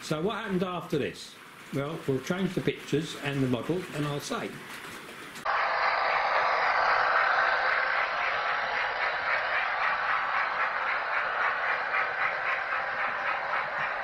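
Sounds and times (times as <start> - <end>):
model train wheels and motors rattling: 0.0 - 14.0.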